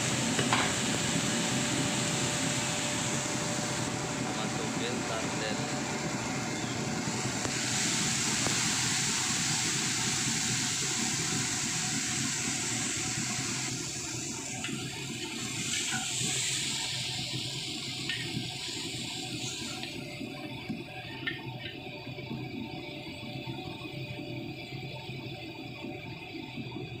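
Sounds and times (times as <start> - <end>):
fish sizzling in a wok: 0.0 - 25.2.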